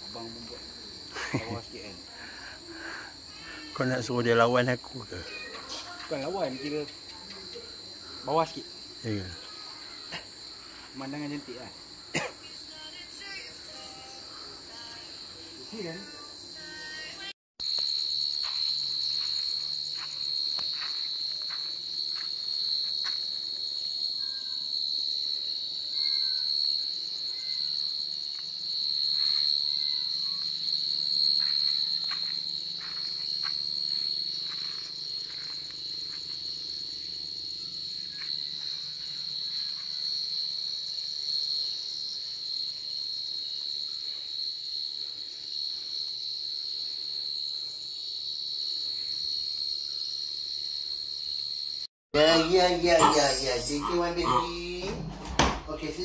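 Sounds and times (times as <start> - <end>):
short insect chirps: 0.0 - 51.9, 53.0 - 54.4
crickets droning: 0.0 - 56.0.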